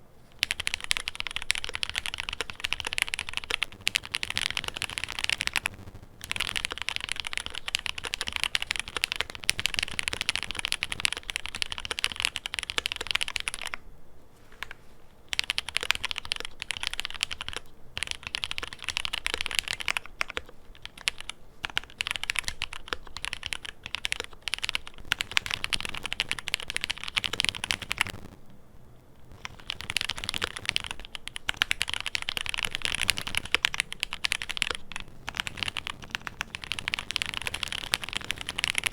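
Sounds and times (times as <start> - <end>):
fast typing on mechanical keyboard: 0.4 - 13.8, 14.6 - 28.1, 29.4 - 38.9.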